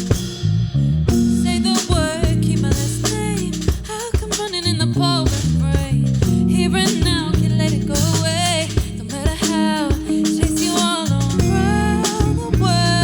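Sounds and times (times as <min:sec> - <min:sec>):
guitar playing: 0:00.0 - 0:03.8, 0:06.2 - 0:13.0
bass guitar: 0:00.0 - 0:13.0.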